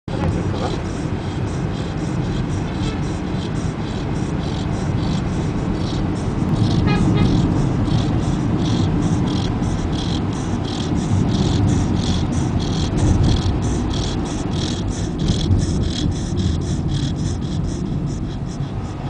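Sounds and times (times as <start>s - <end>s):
car road noise rumble: 0.0s - 19.0s
high-pitched chirping: 0.2s - 19.0s.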